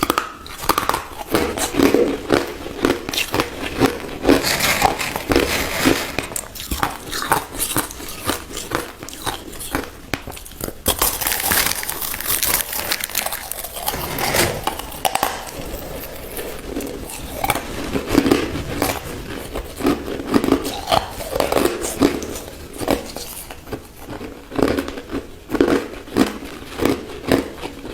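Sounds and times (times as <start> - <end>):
chewing crushed ice: 0.0 - 27.9.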